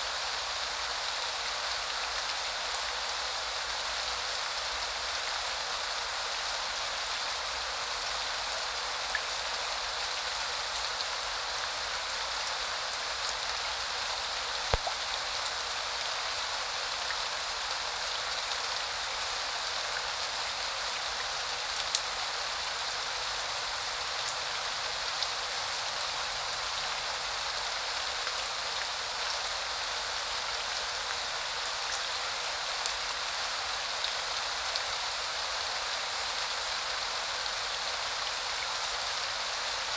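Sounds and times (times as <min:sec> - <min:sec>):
rain falling in even hiss: 0:00.0 - 0:39.9.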